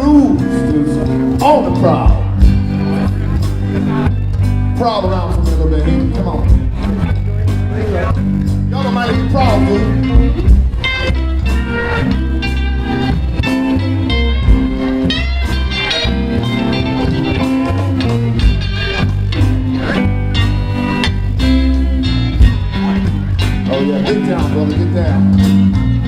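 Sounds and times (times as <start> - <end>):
bass guitar: 0.0 - 26.0
drums: 0.0 - 26.0
electric guitar solo: 0.0 - 26.0.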